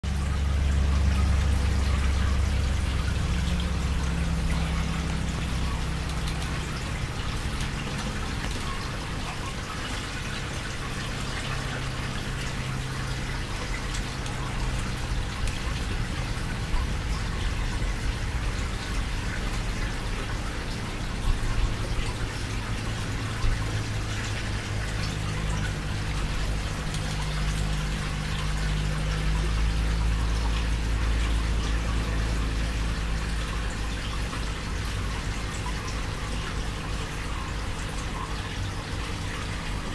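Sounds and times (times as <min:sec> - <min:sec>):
low steady hum: 0:00.0 - 0:39.9
water trickling and splashing: 0:00.0 - 0:39.9.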